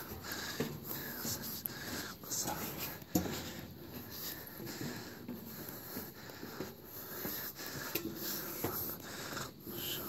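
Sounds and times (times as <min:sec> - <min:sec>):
footsteps on steel stairs: 0:00.0 - 0:09.4
person breathing: 0:00.0 - 0:10.0.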